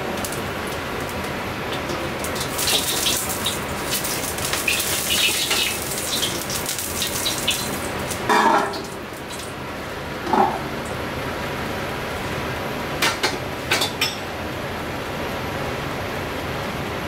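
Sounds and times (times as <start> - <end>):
wok sizzling and crackling: 0.0 - 14.0.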